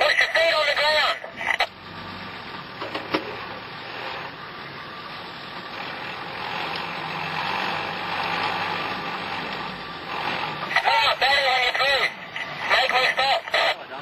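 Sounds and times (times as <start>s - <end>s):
engine running inside cab: 1.3s - 14.0s.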